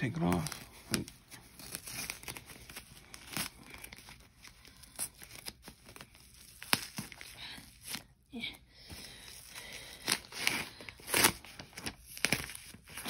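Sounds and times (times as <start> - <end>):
paper tearing and crinkling: 0.0 - 8.1, 9.7 - 13.0.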